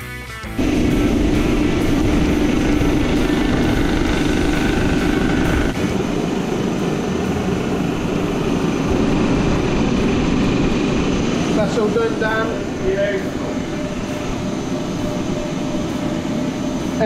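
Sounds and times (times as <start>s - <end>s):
high machine whine: 0.6s - 17.0s
machine hum: 0.6s - 17.0s.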